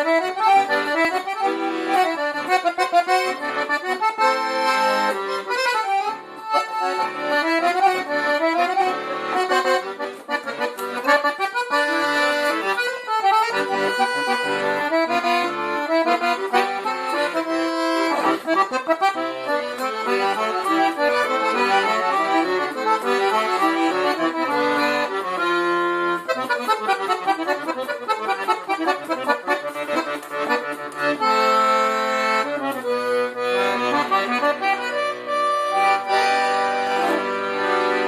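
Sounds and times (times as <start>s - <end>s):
accordion playing solo: 0.0s - 38.0s.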